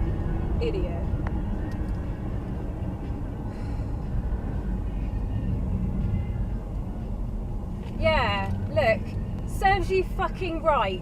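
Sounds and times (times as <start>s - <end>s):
car driving rumble: 0.0s - 11.0s.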